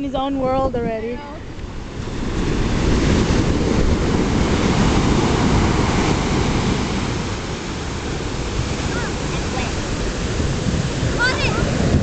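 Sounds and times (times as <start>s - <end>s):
wind on microphone: 0.0s - 12.0s
waves breaking on sand: 1.2s - 12.0s.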